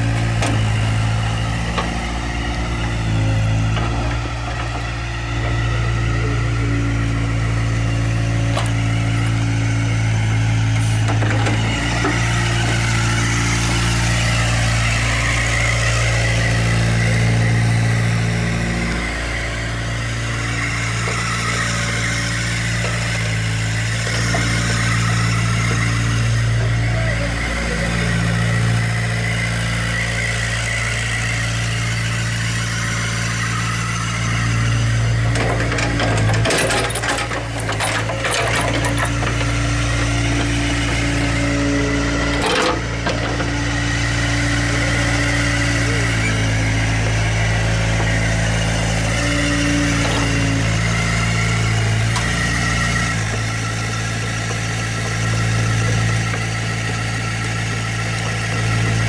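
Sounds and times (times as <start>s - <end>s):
excavator diesel engine idling: 0.0s - 59.0s.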